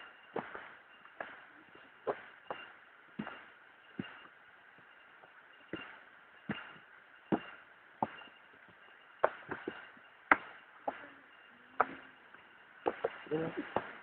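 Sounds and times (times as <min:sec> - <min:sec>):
footsteps on rocky trail: 0:00.0 - 0:14.0.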